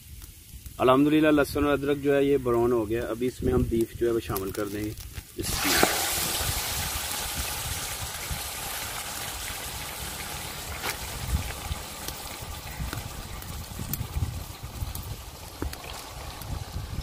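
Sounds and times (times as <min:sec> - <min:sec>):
crackling pops: 0:02.4 - 0:16.6
meat sizzling in hot oil: 0:03.4 - 0:17.0.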